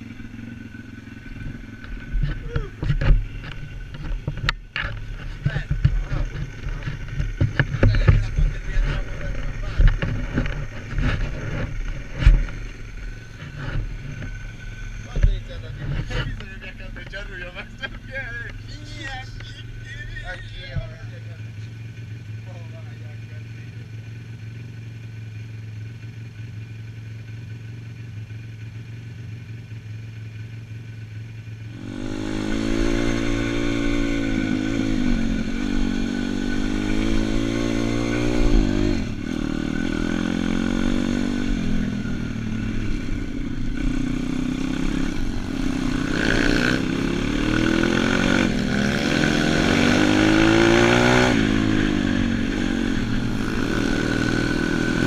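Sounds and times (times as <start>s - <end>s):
motorbike engine revving: 0.0s - 26.6s, 31.6s - 55.0s.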